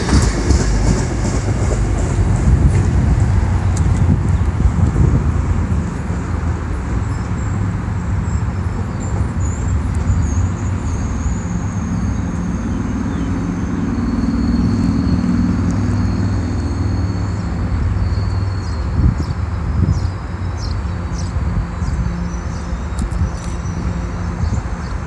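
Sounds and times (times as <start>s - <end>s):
train diesel engine drone: 0.0s - 25.0s.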